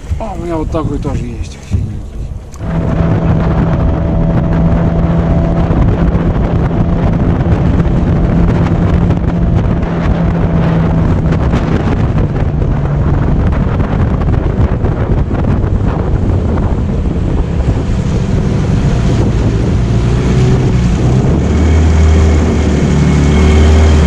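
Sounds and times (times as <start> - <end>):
outboard motor running: 0.0 - 24.0
water rushing along hull: 0.0 - 24.0
wind buffeting microphone: 0.0 - 24.0.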